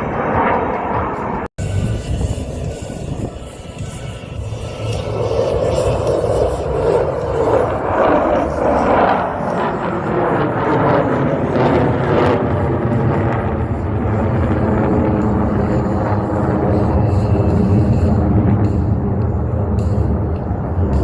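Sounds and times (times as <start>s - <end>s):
airplane engine droning: 0.0s - 21.0s.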